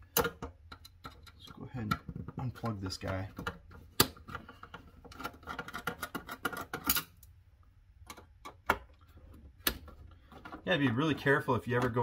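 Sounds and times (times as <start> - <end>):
cable plugs clicking and rattling: 0.0 - 7.4, 8.0 - 12.0.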